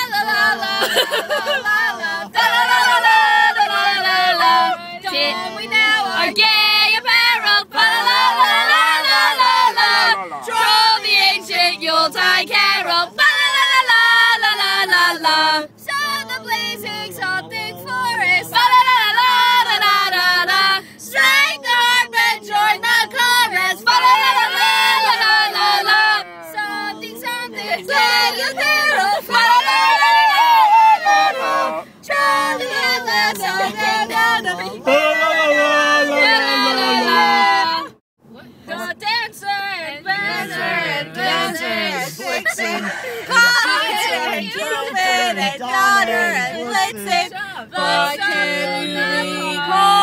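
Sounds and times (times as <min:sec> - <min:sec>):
adults and children singing carol: 0:00.0 - 0:38.0, 0:38.6 - 0:50.0.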